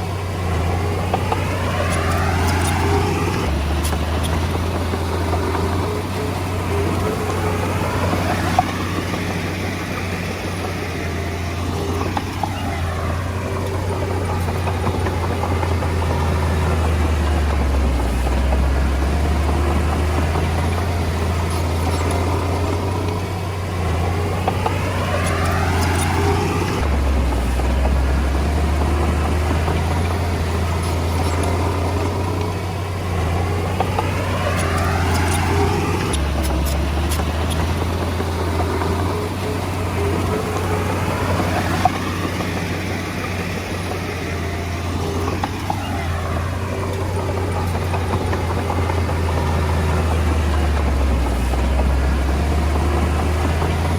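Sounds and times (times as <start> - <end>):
bulldozer diesel engine hum: 0.0 - 53.9.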